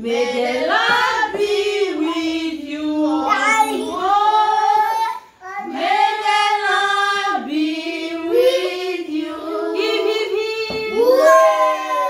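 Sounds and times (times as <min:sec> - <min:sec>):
children and woman singing: 0:00.0 - 0:12.0.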